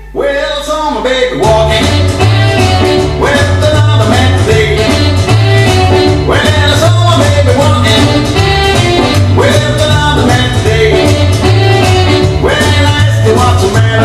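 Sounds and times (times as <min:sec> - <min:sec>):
country band music with guitar: 0:01.4 - 0:14.0
walking bass line: 0:01.4 - 0:14.0.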